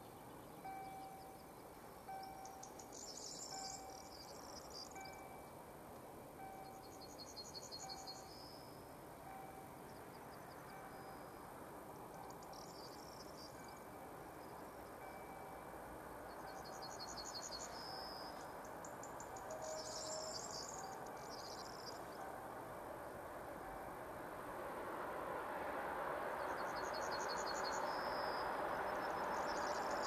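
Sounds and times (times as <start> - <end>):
faint background noise: 0.0 - 30.0.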